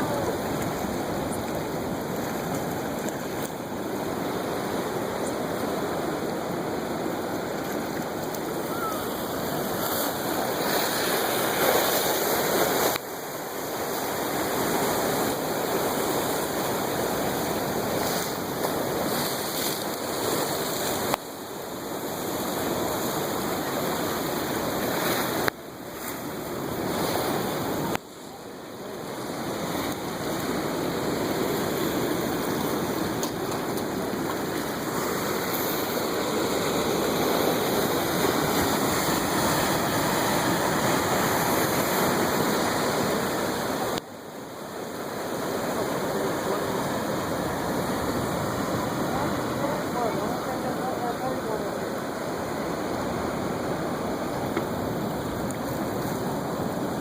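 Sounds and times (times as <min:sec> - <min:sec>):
surf washing and breaking: 0:00.0 - 0:57.0.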